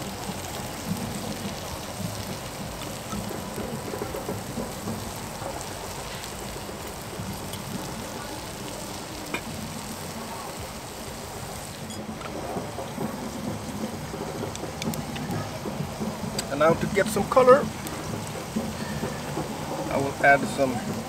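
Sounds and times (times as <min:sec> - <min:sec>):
onions sizzling in a pan: 0:00.0 - 0:21.0.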